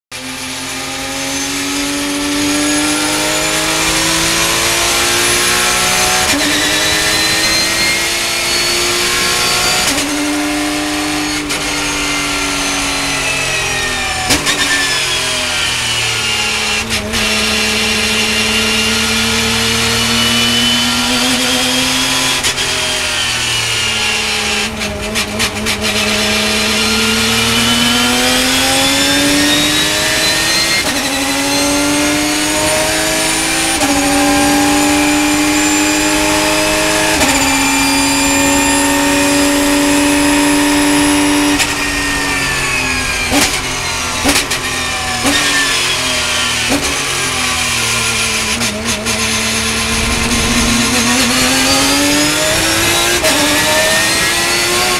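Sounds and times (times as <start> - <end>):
race car engine revving: 0.1 - 54.9.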